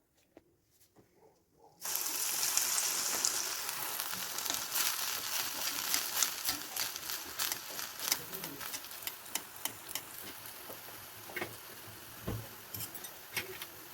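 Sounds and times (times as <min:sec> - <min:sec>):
deep-frying in hot oil sizzle: 0:01.8 - 0:13.9.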